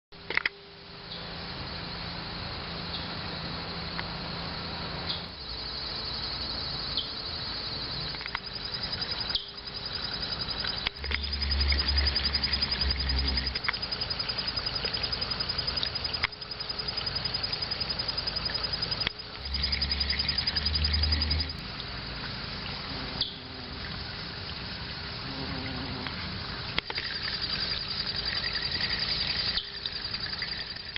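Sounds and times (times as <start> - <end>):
pond water trickling: 0.2 - 30.9.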